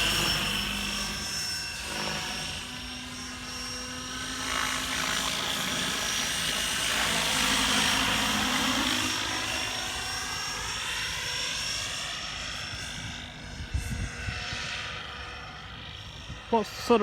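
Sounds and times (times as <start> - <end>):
rc helicopter rotor whining: 0.0 - 17.0.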